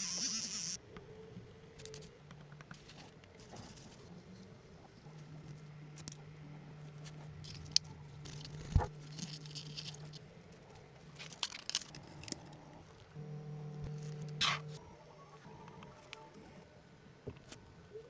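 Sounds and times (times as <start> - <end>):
steady low hum: 0.8 - 17.2.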